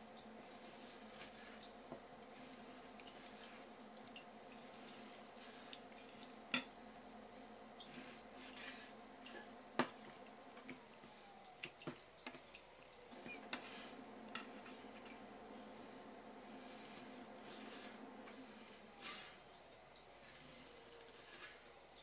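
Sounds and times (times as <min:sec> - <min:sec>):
faint steady hum: 0:00.0 - 0:22.0
soft wet handling of skin: 0:00.2 - 0:22.0.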